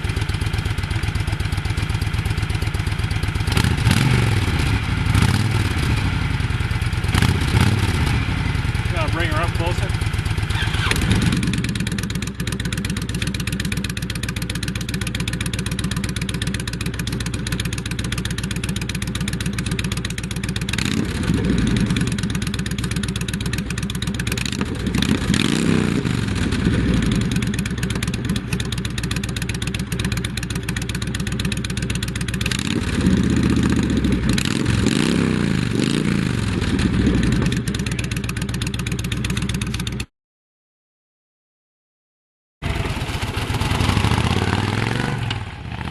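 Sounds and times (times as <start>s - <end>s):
motorcycle engine idling and revving: 0.0s - 40.1s, 42.6s - 45.9s.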